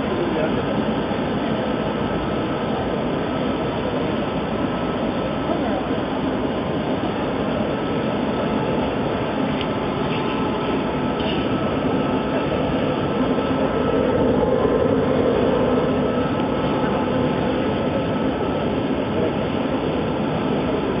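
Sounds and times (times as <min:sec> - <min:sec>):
faint hum: 0:00.0 - 0:21.0
furnace burner and blower rush: 0:00.0 - 0:21.0.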